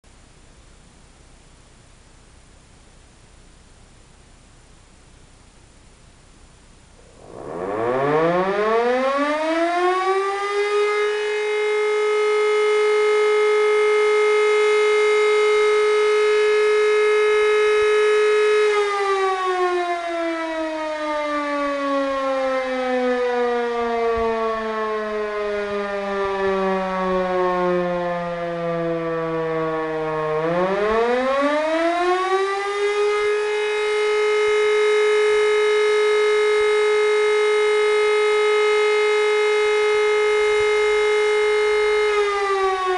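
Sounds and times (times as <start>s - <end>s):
electromechanical siren wailing: 7.0s - 42.9s.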